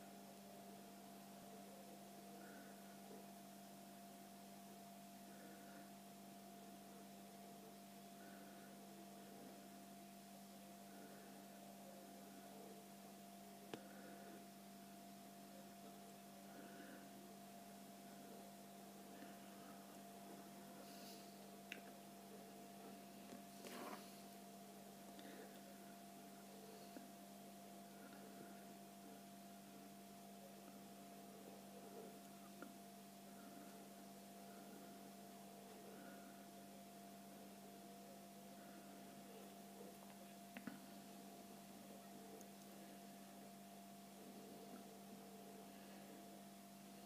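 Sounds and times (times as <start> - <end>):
faint electrical hum: 0.0 - 47.0.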